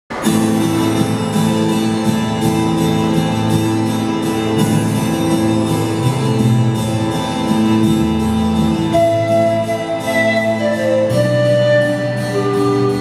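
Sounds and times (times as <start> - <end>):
instrumental duet melody: 0.6 - 13.0.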